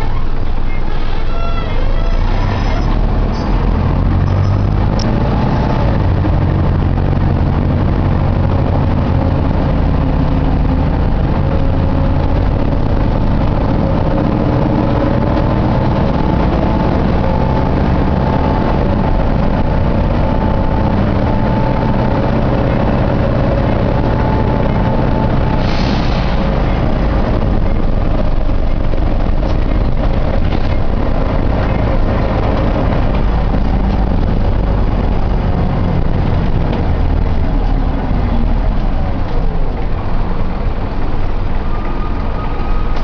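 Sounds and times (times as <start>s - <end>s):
bus engine and road rumble: 0.0s - 43.0s.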